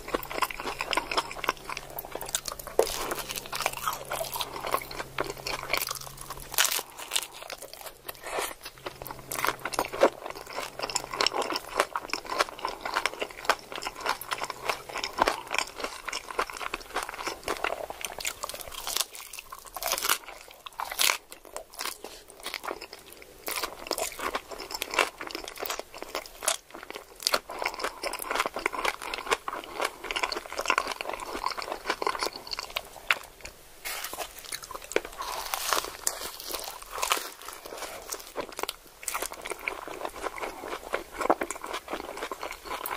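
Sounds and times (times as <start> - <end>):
crunchy taco chewing: 0.0 - 42.9.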